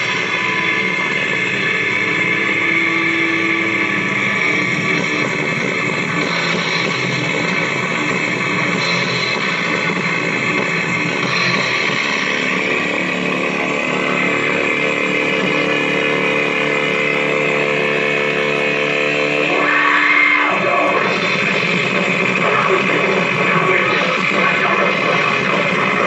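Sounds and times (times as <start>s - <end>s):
metal band playing live: 0.0s - 26.0s.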